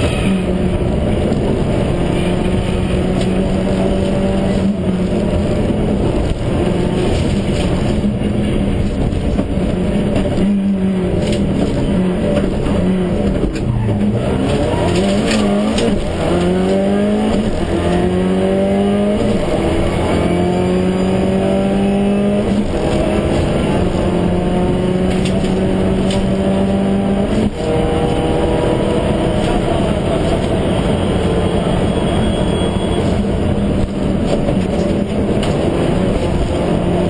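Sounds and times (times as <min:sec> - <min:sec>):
car engine accelerating: 0:00.0 - 0:37.0
road noise: 0:00.0 - 0:37.0.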